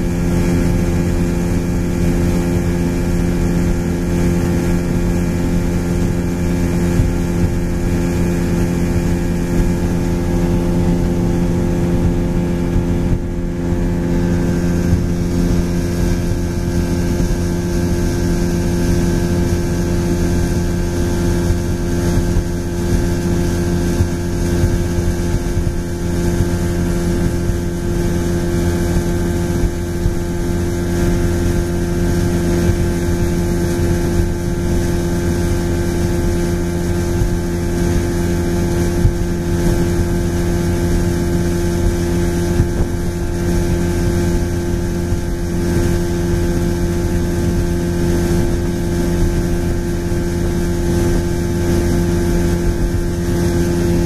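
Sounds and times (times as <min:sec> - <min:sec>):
motorboat engine droning: 0:00.0 - 0:54.0
wind noise on microphone: 0:00.0 - 0:54.0.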